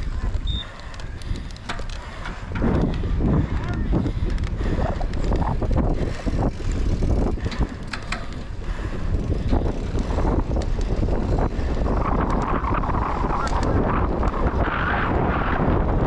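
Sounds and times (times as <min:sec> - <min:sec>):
bicycle tyres rumbling on gravel: 0:00.0 - 0:16.0
bike clicks and rattles: 0:00.0 - 0:16.0
wind buffeting microphone: 0:00.0 - 0:16.0.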